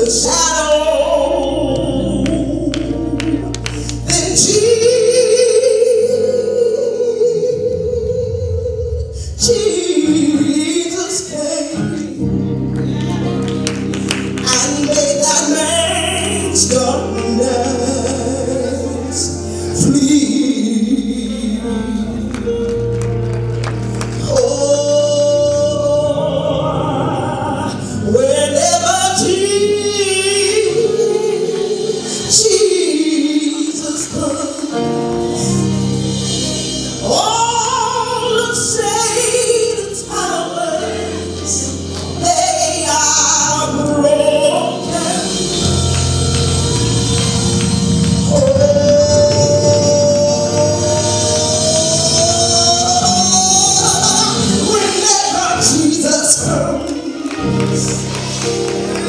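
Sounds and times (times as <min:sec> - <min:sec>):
woman singing gospel: 0:00.0 - 0:22.6, 0:24.2 - 0:35.8, 0:37.0 - 0:58.4
organ and band accompaniment: 0:00.0 - 0:59.0.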